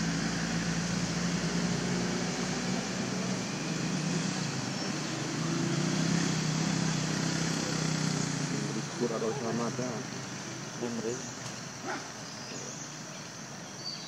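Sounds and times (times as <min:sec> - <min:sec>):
motor engine humming: 0:00.0 - 0:13.6.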